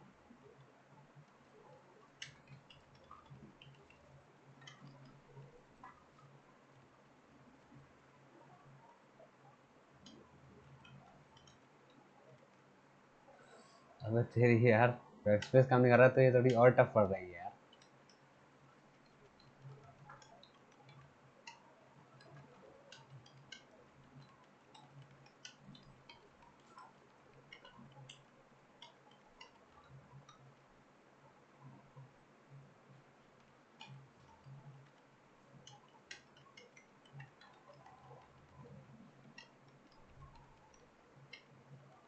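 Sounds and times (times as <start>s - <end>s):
faint computer keyboard typing: 0.4s - 42.0s.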